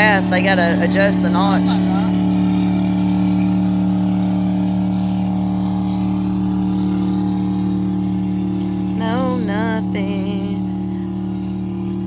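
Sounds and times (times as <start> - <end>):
motor engine droning: 0.0 - 12.0.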